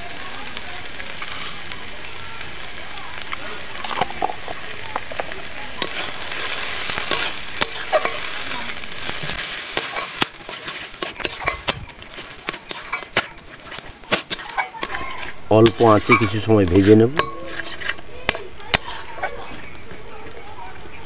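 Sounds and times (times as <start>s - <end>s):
paste sizzling in oil: 0.0s - 20.7s
spatula scraping a wok: 1.1s - 1.7s, 3.8s - 20.3s.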